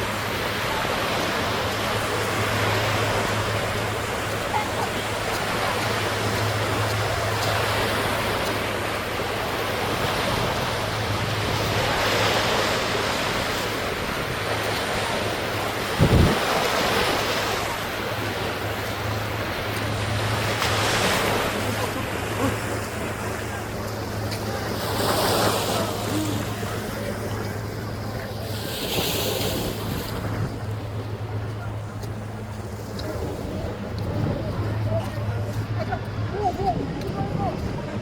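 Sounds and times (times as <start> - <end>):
small waves washing on beach: 0.0 - 38.0.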